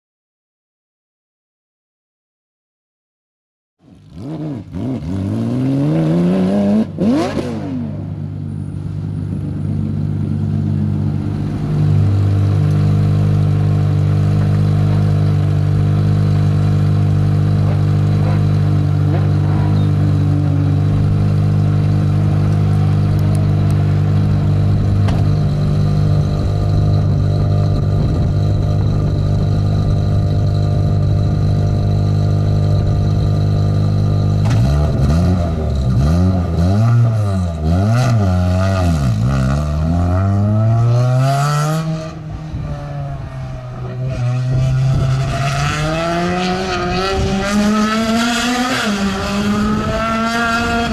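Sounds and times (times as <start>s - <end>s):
rally car engine revving: 3.9s - 50.9s.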